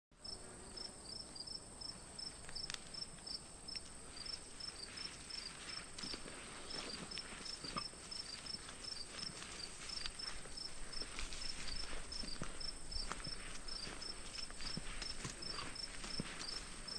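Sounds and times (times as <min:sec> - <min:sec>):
crickets trilling: 0:00.2 - 0:16.9.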